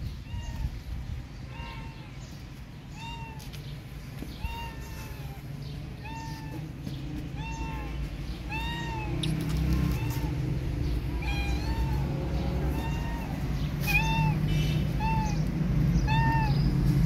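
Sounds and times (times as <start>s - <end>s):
cat meowing: 0.2s - 0.8s, 1.4s - 3.6s, 4.3s - 16.8s.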